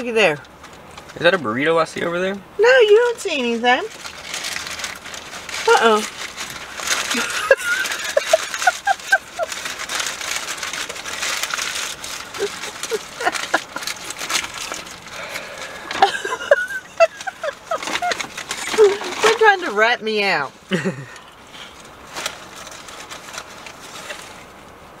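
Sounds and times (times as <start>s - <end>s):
aluminium foil crinkling: 0.1s - 24.8s.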